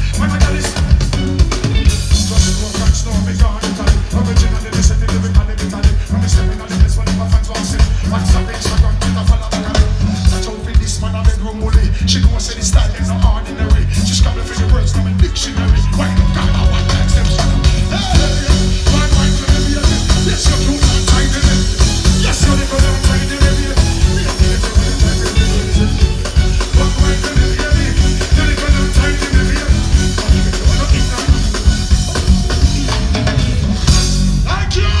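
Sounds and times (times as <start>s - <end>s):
loud dancehall music with heavy bass: 0.0s - 35.0s.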